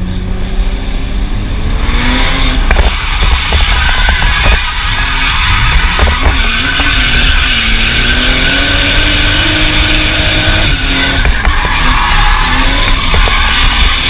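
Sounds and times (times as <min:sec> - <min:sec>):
car engine revving: 0:00.0 - 0:14.0
tyre squeal: 0:02.1 - 0:14.0.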